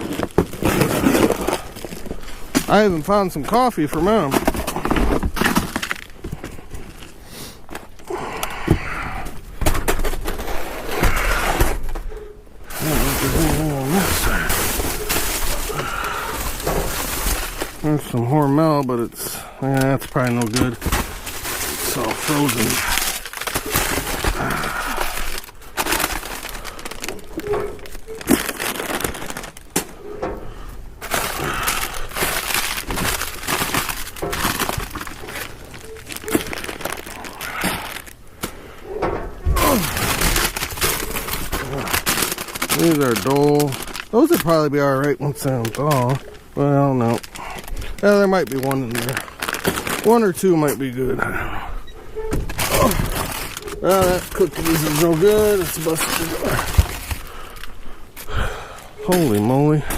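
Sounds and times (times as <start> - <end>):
knocks and clunks of items: 0.0 - 19.0, 19.7 - 50.9, 51.9 - 59.9
packaging rustling and crinkling: 0.0 - 59.9.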